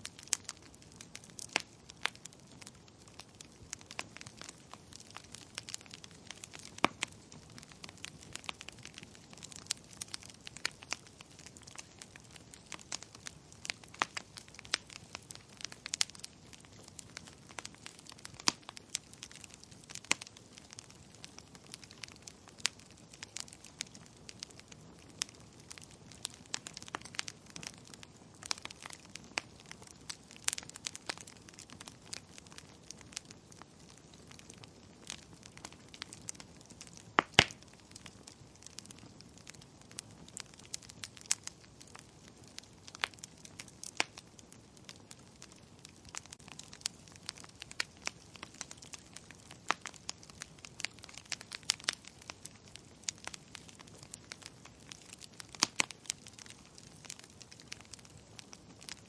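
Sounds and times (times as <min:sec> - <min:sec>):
low hiss of fire: 0:00.0 - 0:59.0
wood fire crackling: 0:00.0 - 0:59.0.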